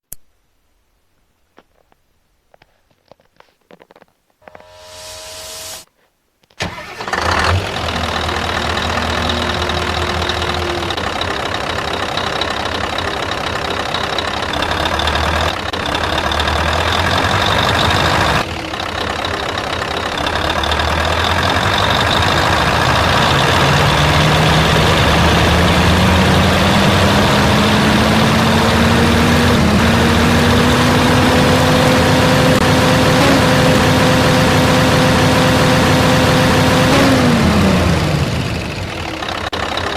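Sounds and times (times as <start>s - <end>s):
truck engine running: 6.6s - 39.9s.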